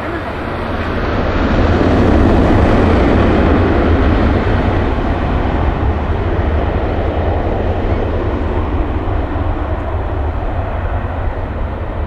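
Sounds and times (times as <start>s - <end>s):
jet engines passing: 0.0s - 12.0s.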